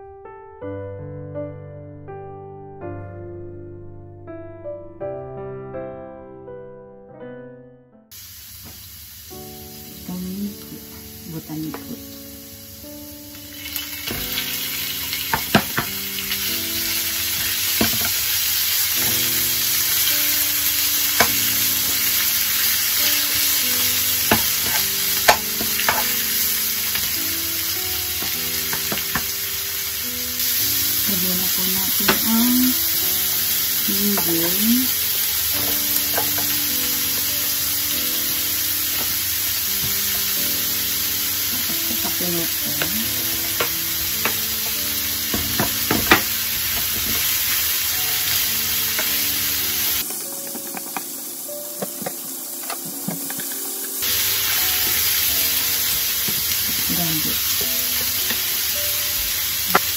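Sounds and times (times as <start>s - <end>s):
meat sizzling in a frying pan: 8.1s - 59.9s
faint background music: 9.4s - 59.9s.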